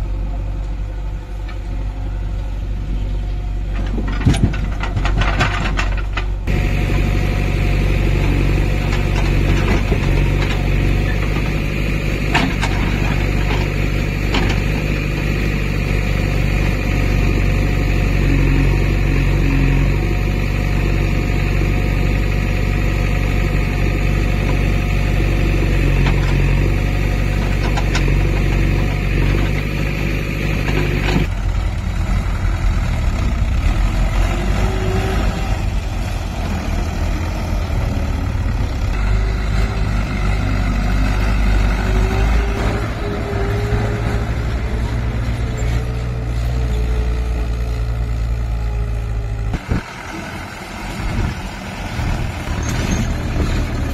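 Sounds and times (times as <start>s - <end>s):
backhoe diesel engine digging: 0.0s - 53.9s
tractor diesel engine driving: 0.0s - 53.9s.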